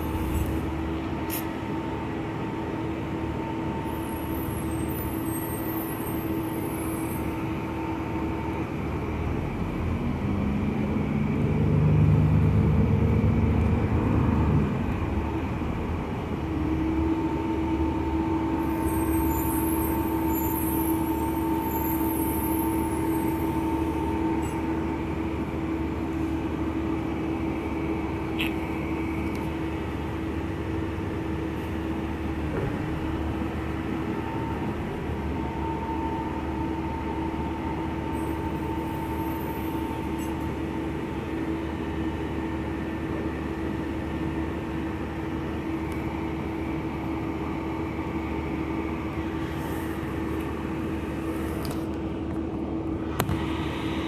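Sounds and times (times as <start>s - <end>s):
bus drivetrain hum with whine: 0.0s - 54.0s
road noise rumbling: 0.0s - 54.0s.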